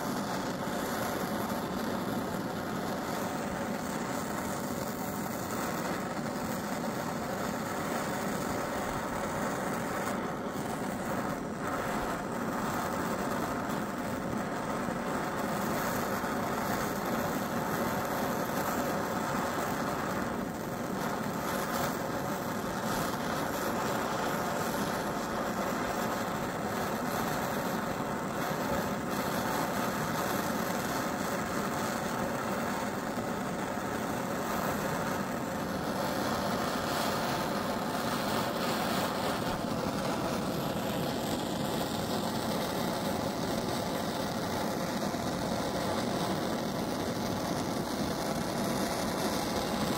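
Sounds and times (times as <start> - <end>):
gas torch hissing: 0.0 - 49.9.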